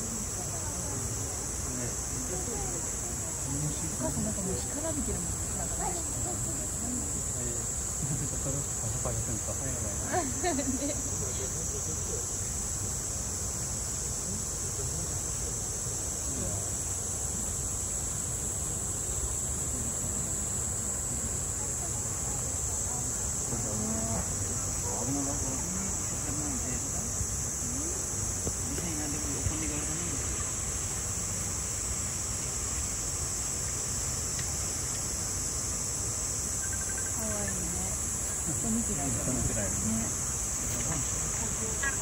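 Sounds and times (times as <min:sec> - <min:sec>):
cicada chorus drone: 0:00.0 - 0:42.0.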